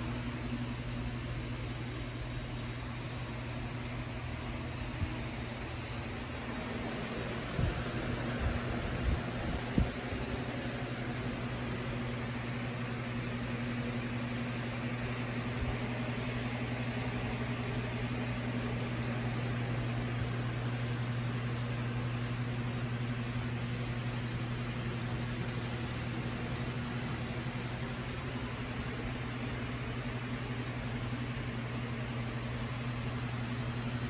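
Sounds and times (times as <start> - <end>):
electric fan humming: 0.0 - 34.0.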